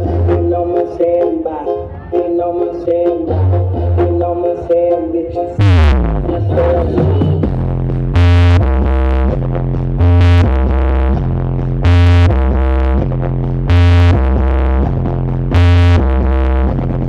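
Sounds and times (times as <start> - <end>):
loud electronic dance music: 0.0 - 17.0.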